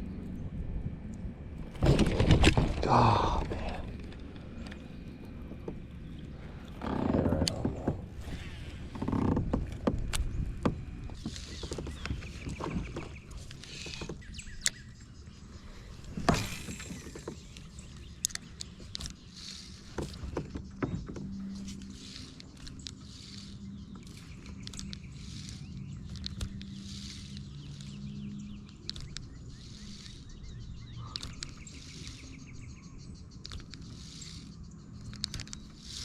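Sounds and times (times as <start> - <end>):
low steady hum: 0.0 - 36.0
water movement: 1.6 - 36.0.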